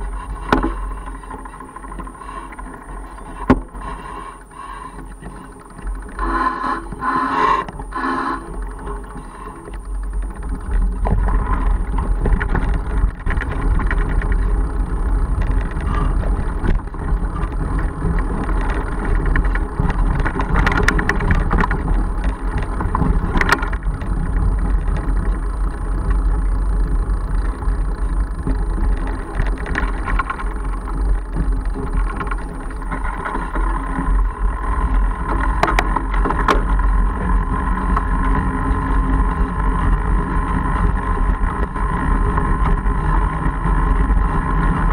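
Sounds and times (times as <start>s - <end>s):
bike knocks and rattles over bumps: 0.0s - 6.2s, 7.7s - 44.9s
bike tyres rumbling on trail: 0.0s - 44.9s
tyres humming on gravel road: 0.0s - 44.9s.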